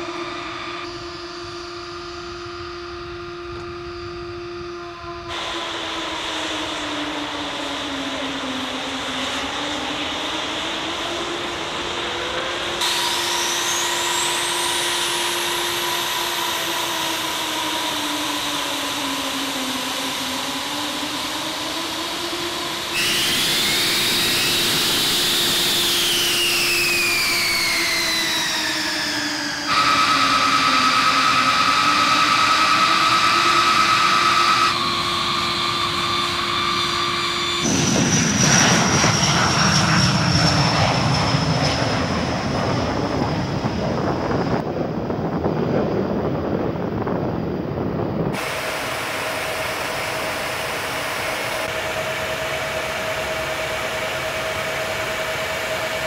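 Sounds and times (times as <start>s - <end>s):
jet engines whining: 0.0s - 56.0s
jet roar at takeoff: 0.0s - 56.0s.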